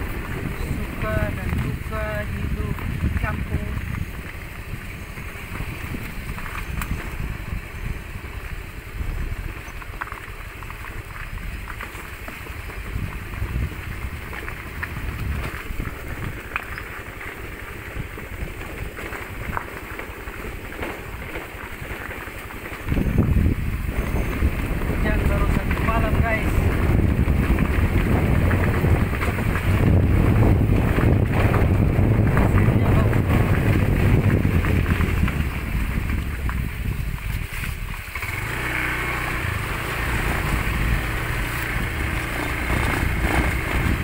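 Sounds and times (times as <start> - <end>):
scooter engine rumble: 0.0 - 44.0
wind on microphone: 0.0 - 44.0.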